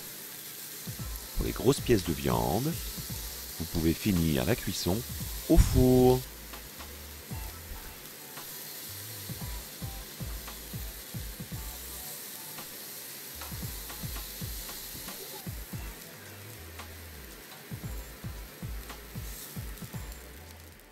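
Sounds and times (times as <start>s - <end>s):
steaks sizzling on grill: 0.0s - 20.9s.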